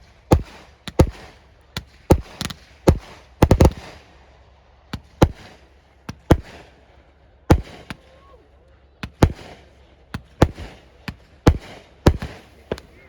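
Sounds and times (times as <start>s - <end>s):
fireworks bangs: 0.0s - 4.1s, 5.0s - 6.8s, 7.5s - 8.2s, 9.0s - 13.0s.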